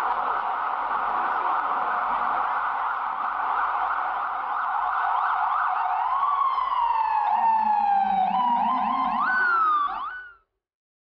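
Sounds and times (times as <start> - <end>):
emergency sirens: 0.0 - 10.4.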